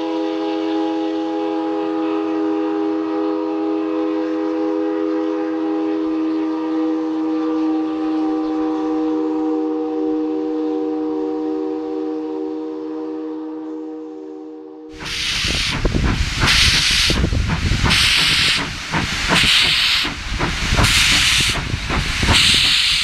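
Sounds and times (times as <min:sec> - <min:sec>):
steam locomotive whistle: 0:00.0 - 0:23.0.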